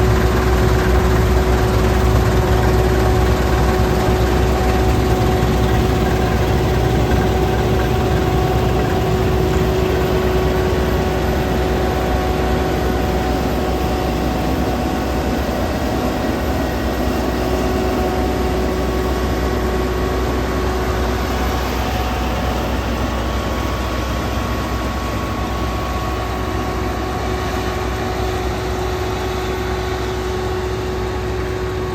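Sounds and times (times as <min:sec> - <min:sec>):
combine harvester rumbling: 0:00.0 - 0:31.9.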